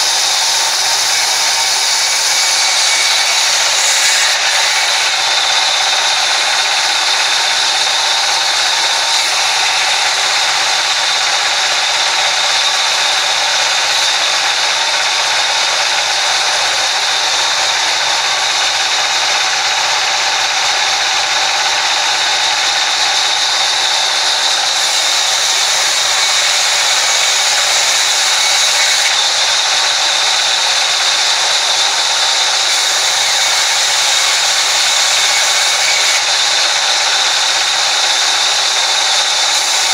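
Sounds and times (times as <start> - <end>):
band saw whine: 0.0 - 39.9.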